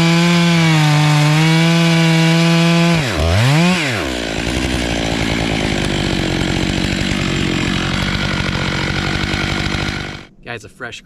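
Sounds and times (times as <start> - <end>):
chainsaw revving and idling: 0.0 - 10.3.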